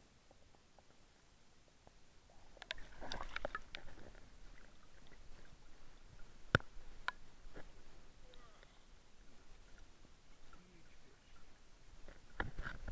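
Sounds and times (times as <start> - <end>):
water splashing and sloshing: 0.2 - 12.9.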